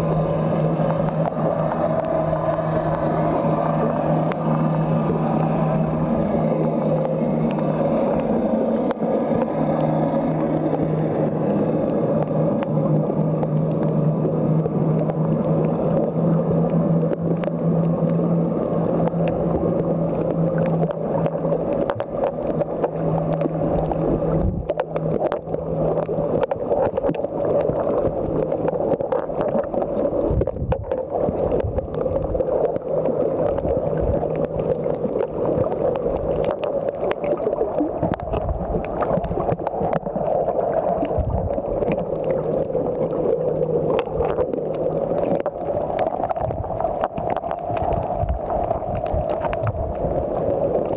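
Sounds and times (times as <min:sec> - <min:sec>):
low steady hum: 0:00.0 - 0:50.9
muffled underwater rush: 0:00.0 - 0:50.9.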